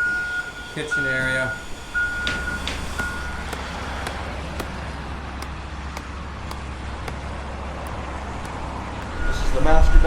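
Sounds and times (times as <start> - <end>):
heavy machinery rumbling: 0.9 - 10.0.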